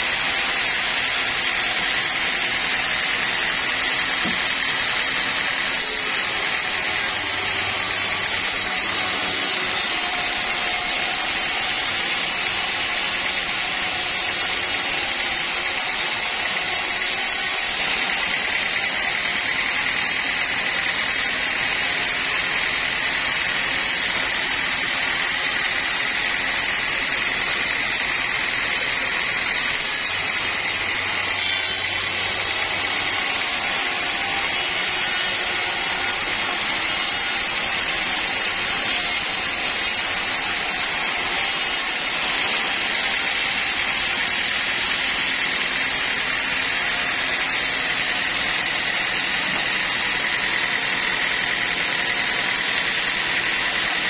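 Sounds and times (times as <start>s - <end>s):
band saw cutting a log: 0.0s - 54.0s.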